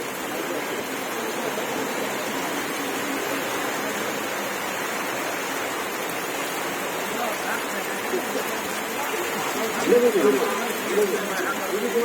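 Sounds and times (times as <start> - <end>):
water falling steadily: 0.0 - 12.0.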